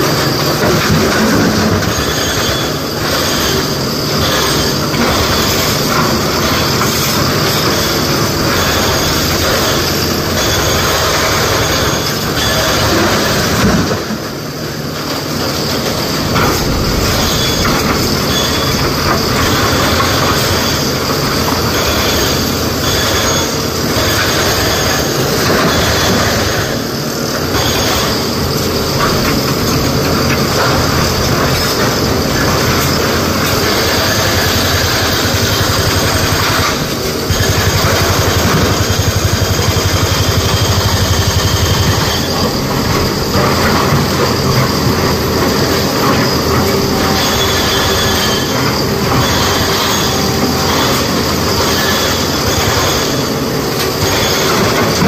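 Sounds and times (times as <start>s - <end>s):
excavator engine and hydraulics: 0.0s - 55.0s
metallic grinding: 1.9s - 26.8s, 27.4s - 55.0s.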